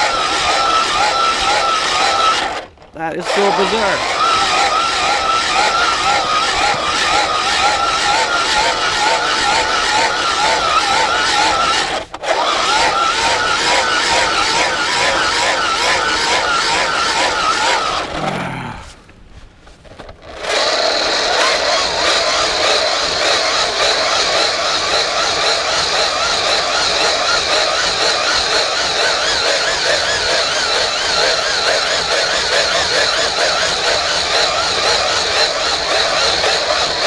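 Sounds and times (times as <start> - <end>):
hand-held blower whining: 0.0 - 37.0.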